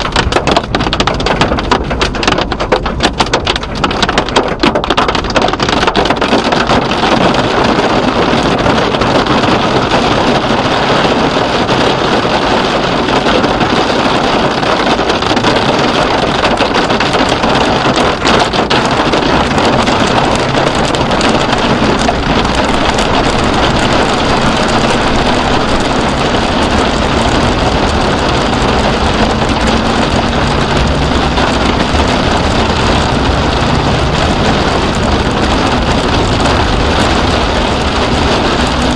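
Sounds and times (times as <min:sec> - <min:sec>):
wind and heavy rain on vehicle: 0:00.0 - 0:38.9.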